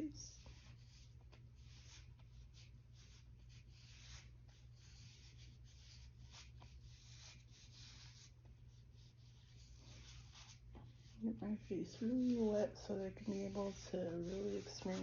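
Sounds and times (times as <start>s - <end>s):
low steady hum: 0.0s - 15.0s
paper towel patting face: 0.0s - 15.0s.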